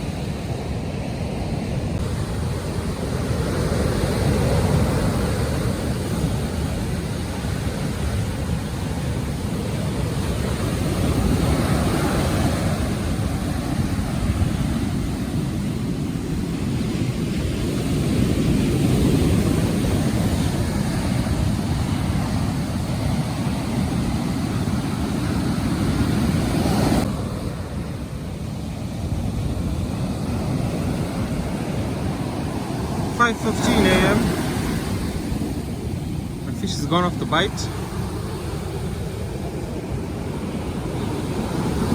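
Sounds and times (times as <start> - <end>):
breaking surf: 0.0 - 41.9
wind buffeting microphone: 0.0 - 41.9.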